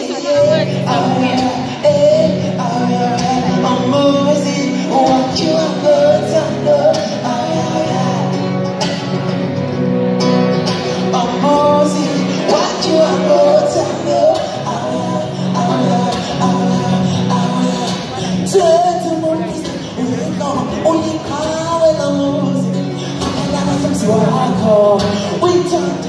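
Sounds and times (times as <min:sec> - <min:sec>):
live band with singer: 0:00.0 - 0:26.0.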